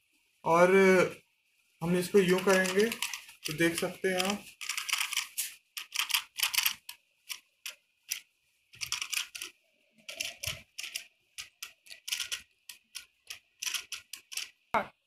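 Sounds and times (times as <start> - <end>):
plastic toy clicks and rattles: 2.2 - 14.7.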